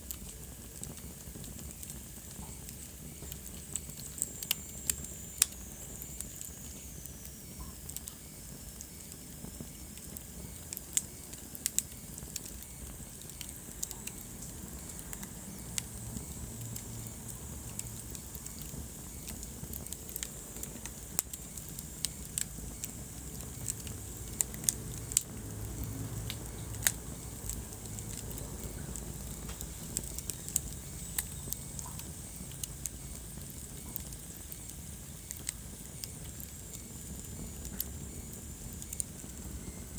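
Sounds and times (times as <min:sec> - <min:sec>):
burning logs crackling and popping: 0:00.0 - 0:39.9
flames rumbling and hissing: 0:00.0 - 0:39.9.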